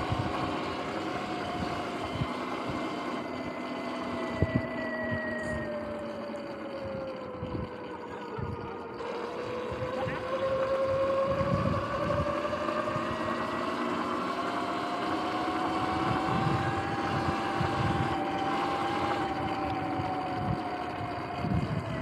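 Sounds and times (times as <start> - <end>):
electric motor whining: 0.0 - 22.0
wind buffeting microphone: 0.0 - 22.0.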